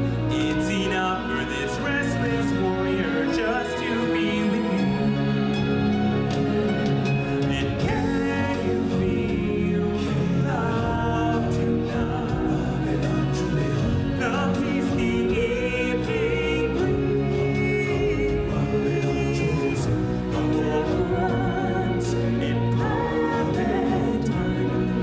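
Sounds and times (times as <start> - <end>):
choir-like voices singing: 0.0 - 25.0.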